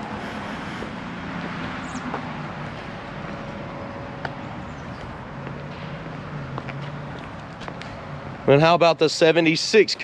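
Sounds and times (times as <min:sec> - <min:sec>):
low vehicle rumble: 0:00.0 - 0:08.8.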